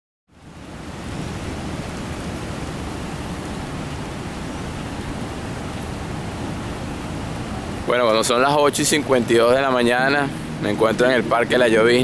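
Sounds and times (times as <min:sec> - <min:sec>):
rushing water with low rumble: 0:00.3 - 0:12.0.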